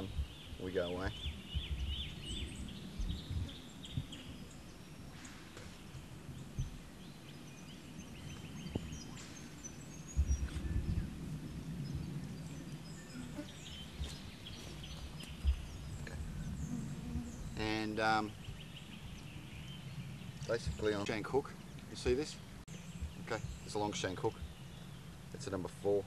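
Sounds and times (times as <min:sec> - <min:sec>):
low steady rumble: 0:00.0 - 0:25.8
birds chirping: 0:00.0 - 0:26.0.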